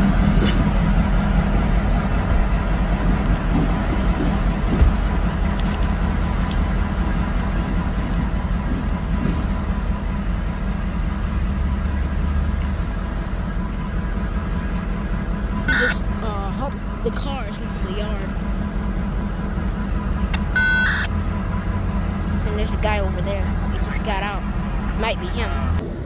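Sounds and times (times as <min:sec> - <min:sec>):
locomotive engine droning: 0:00.0 - 0:26.0.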